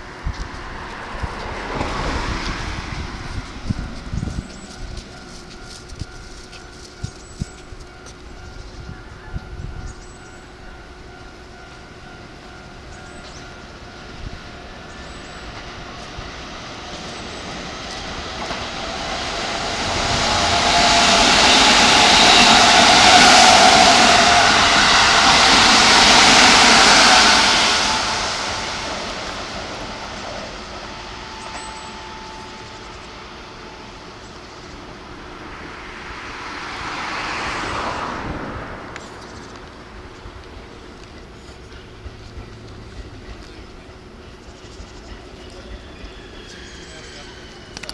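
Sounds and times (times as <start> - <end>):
electric train passing: 0.0 - 47.9.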